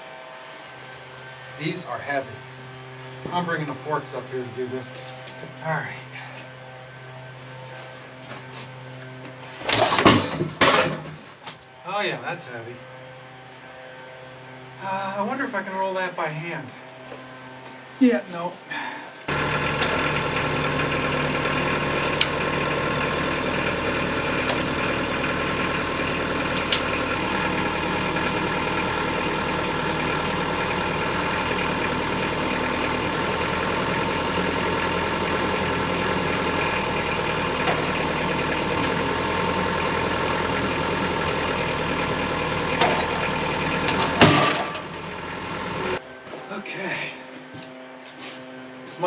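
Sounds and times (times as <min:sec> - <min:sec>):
machine engine running: 0:00.0 - 0:16.0, 0:18.6 - 0:48.8.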